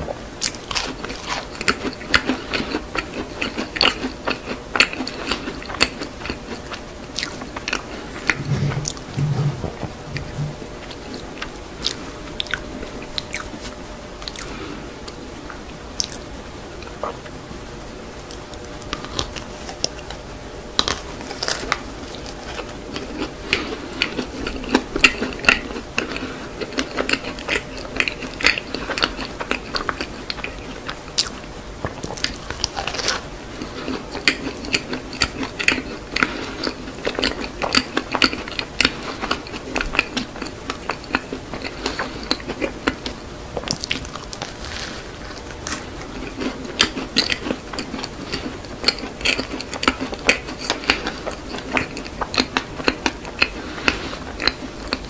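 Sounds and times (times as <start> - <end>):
crunching bites and chewing: 0.4 - 14.7, 18.3 - 55.0.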